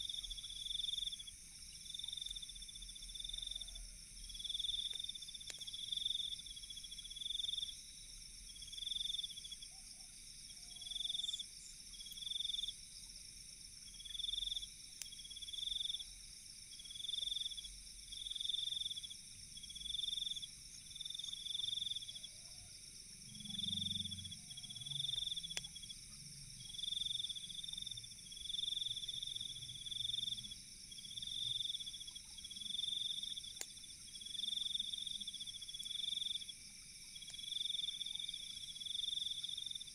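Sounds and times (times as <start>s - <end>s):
cricket trill: 0.0s - 39.9s
insects droning: 0.0s - 39.9s.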